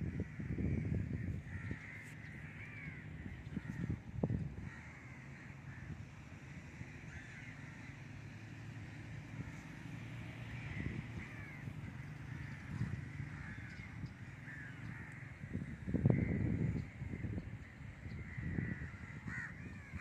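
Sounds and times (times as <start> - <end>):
birds calling: 0.0 - 8.0, 10.4 - 20.0.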